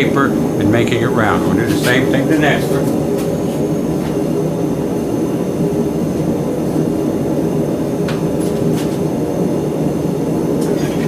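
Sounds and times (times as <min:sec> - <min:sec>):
forge fire roaring: 0:00.0 - 0:11.0.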